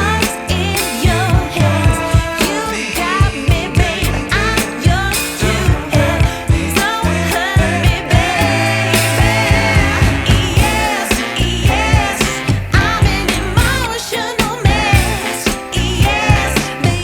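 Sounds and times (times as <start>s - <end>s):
bass: 0.0s - 17.0s
person singing: 0.0s - 17.0s
steady drum beat: 0.0s - 17.0s.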